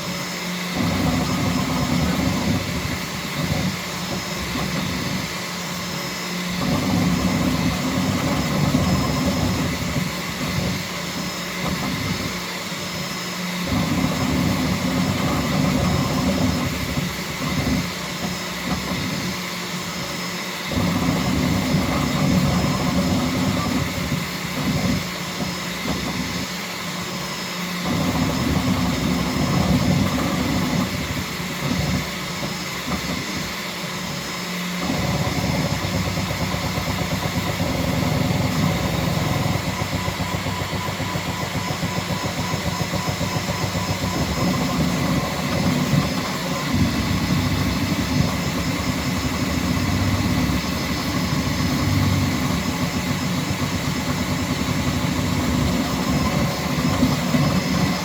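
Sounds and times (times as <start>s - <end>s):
steady high whine: 0.0s - 58.0s
stepper motors whirring: 0.0s - 58.0s.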